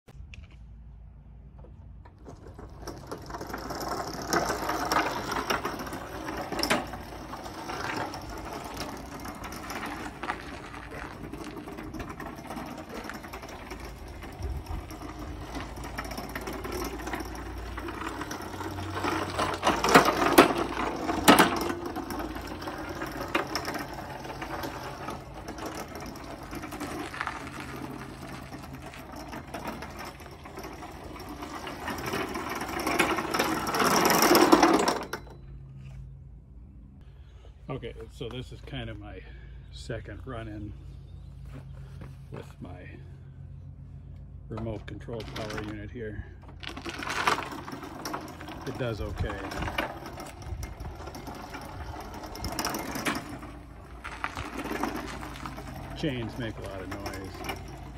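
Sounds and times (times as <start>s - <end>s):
drive chains clattering: 2.0s - 35.9s, 45.0s - 57.9s.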